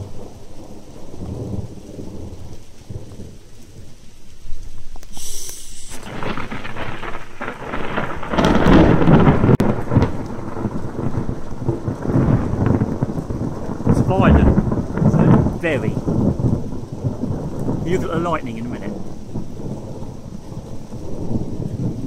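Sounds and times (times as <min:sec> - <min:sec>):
rain falling: 0:00.0 - 0:22.0
thunder rumbling: 0:00.0 - 0:22.0.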